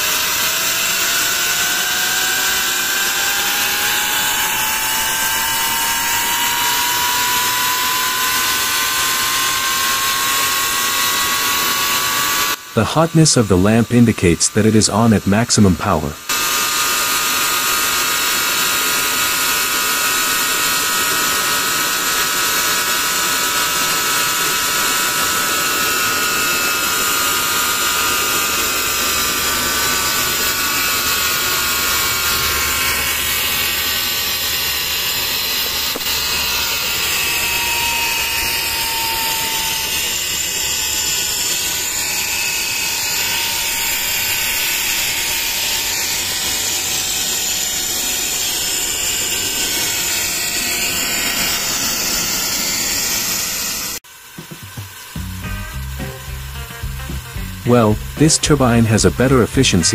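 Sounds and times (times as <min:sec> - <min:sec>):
steam hissing from nozzle: 0:00.0 - 0:13.3, 0:16.3 - 0:55.2
turbine high whine: 0:00.0 - 0:59.9.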